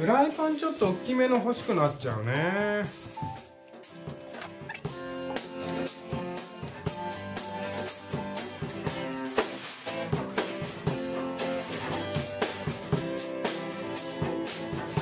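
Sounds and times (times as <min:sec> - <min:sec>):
guitar and drum music: 0:00.0 - 0:15.0.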